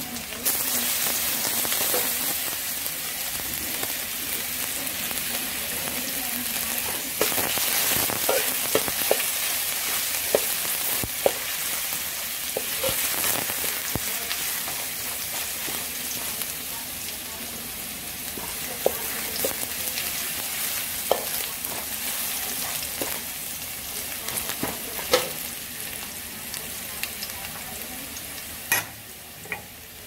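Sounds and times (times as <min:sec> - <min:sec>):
oil sizzling in a wok: 0:00.0 - 0:30.0.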